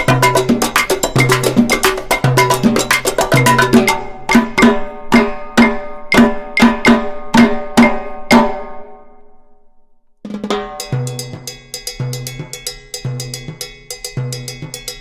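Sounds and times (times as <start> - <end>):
struck pitched percussion beats: 0.0 - 9.1, 10.3 - 15.0.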